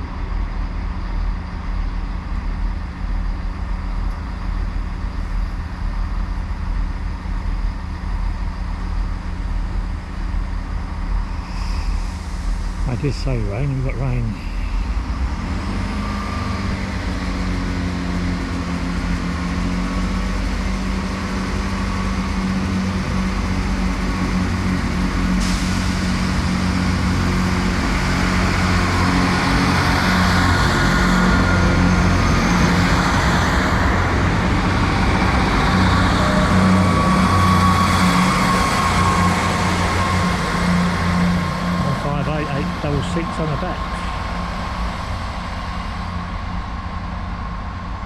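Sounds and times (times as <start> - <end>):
train engine hum: 0.0 - 48.0.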